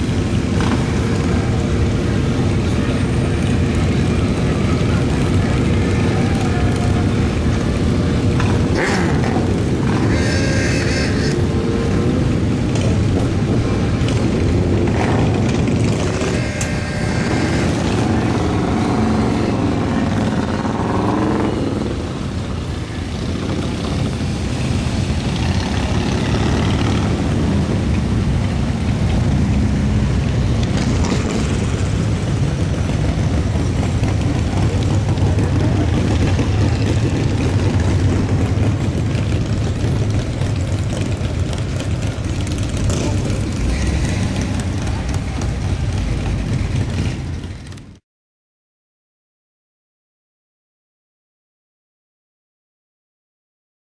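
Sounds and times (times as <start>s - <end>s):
motorcycles riding past: 0.0s - 48.0s.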